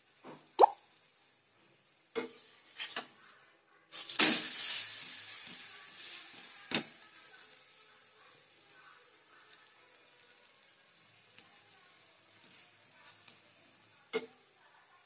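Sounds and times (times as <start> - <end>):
bread sizzling on griddle: 0.0 - 15.0.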